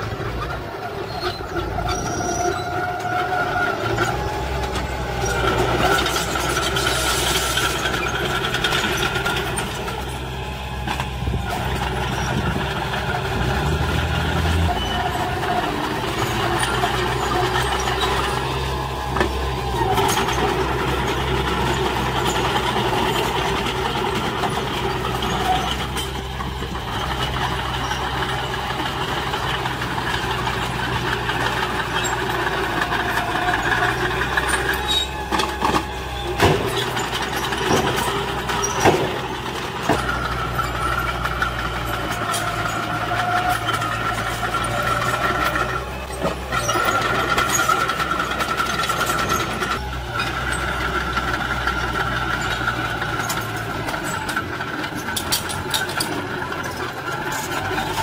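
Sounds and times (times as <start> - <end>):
bulldozer diesel engine running: 0.0 - 58.0
dump truck engine: 0.0 - 58.0.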